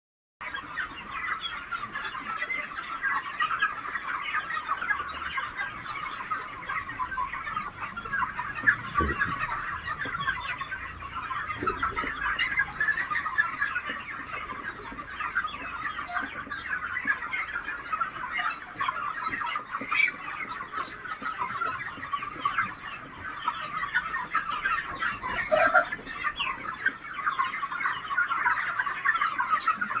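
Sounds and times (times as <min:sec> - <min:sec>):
chickens clucking and chirping: 0:00.4 - 0:30.0.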